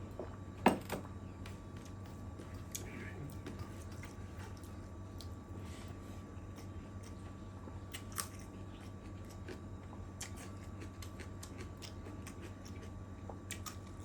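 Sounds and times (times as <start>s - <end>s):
wet chewing sounds: 1.8s - 5.5s, 6.4s - 14.0s.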